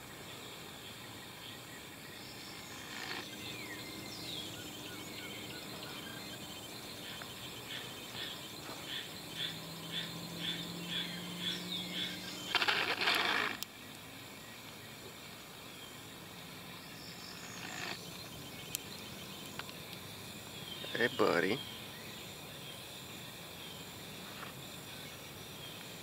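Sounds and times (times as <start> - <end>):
buzzy hiss: 0.0 - 26.0.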